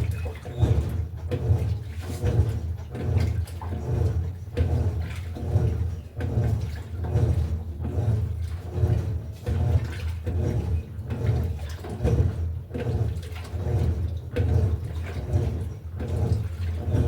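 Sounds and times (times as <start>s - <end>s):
washing machine churning: 0.0s - 17.0s
water sloshing: 0.0s - 17.0s.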